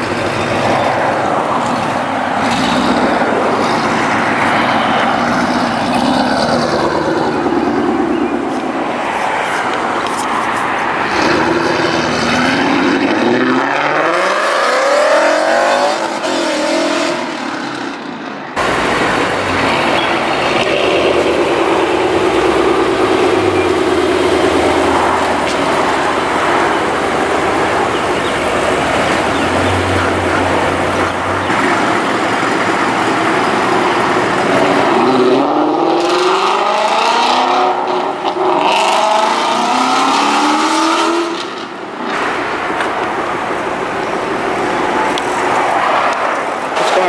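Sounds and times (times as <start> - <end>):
car engine revving: 0.0 - 17.9, 18.6 - 47.0.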